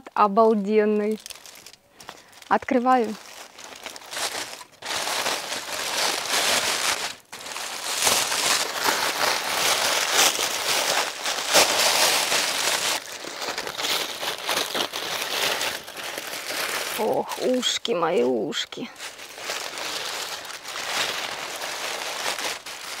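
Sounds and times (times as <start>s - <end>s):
aluminium foil crinkling: 0.0s - 23.0s.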